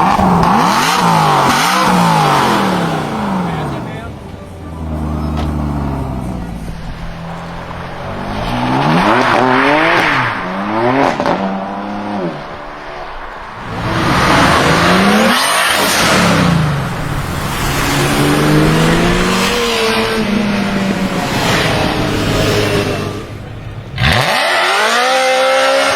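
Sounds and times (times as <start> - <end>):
car engine revving hard: 0.0 - 4.1, 4.9 - 25.9.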